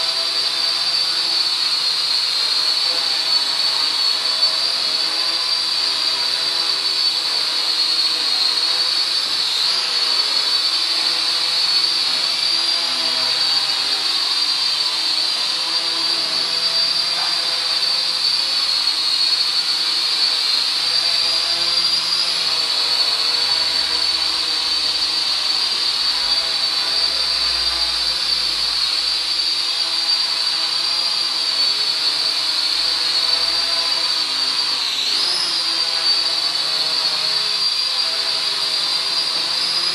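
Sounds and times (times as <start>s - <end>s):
drone propellers whining: 6.5s - 39.9s.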